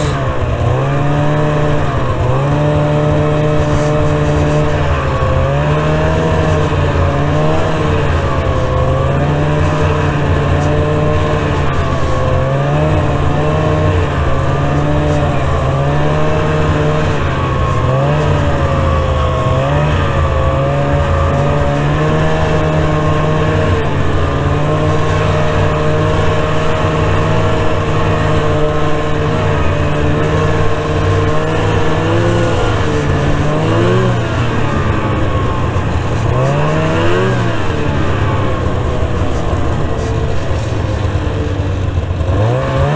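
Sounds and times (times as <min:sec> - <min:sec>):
snowmobile engine running: 0:00.0 - 0:42.9.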